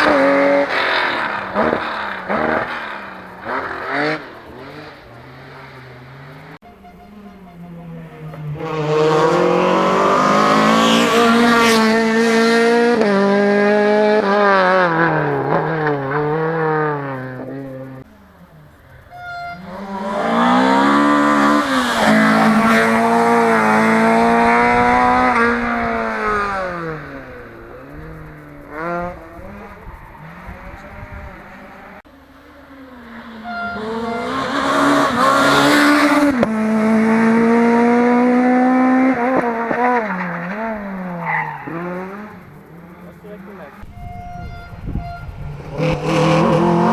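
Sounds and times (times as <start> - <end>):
rally cars passing at speed: 0.0 - 46.9.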